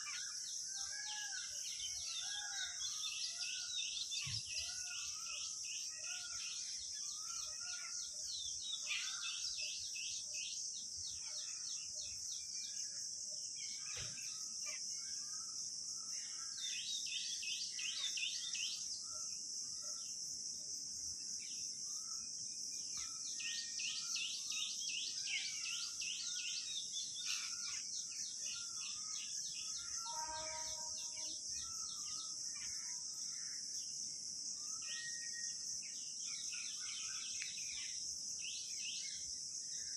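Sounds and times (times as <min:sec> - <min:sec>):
insect drone: 0:00.0 - 0:39.9.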